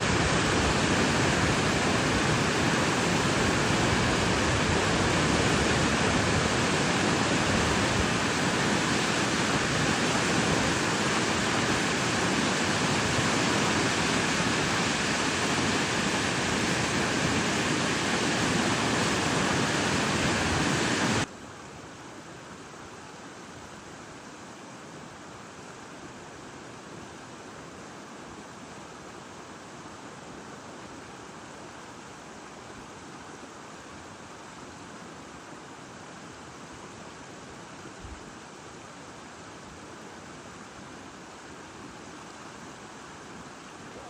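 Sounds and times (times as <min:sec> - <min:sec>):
river rushing: 0:00.0 - 0:44.0.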